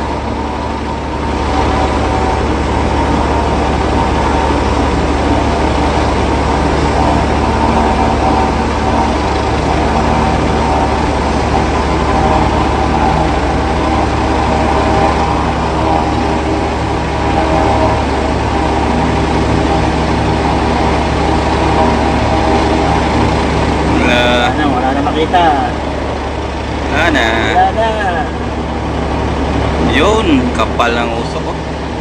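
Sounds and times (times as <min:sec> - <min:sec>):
helicopter rotor buzz: 0:00.0 - 0:32.0
helicopter whining tones: 0:00.0 - 0:32.0
rushing rotor wash: 0:00.0 - 0:32.0.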